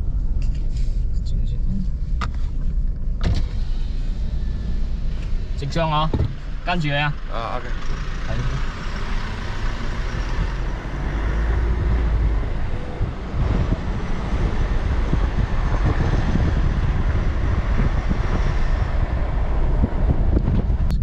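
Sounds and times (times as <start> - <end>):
low engine rumble: 0.0 - 21.0
rushing road noise: 0.0 - 21.0.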